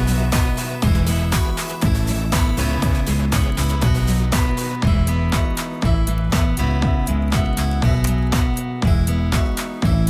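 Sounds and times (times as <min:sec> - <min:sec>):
bass line: 0:00.0 - 0:10.0
music with steady beat: 0:00.0 - 0:10.0
strummed guitar: 0:00.0 - 0:10.0.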